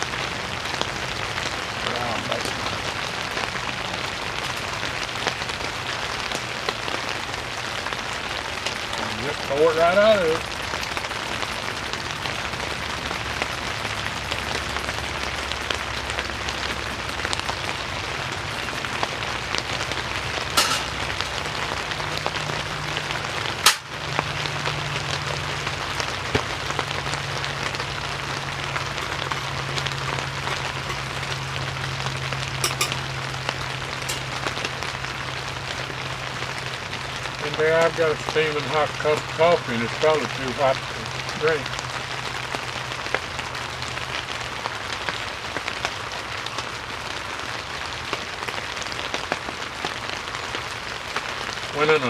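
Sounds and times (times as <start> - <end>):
rain on a tent roof: 0.0 - 52.0.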